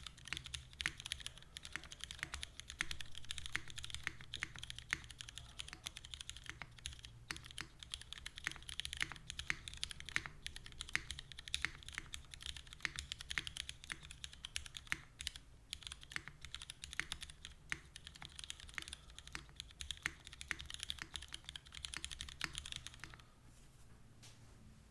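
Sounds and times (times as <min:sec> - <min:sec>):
mechanical keyboard key clacks: 0:00.0 - 0:23.2.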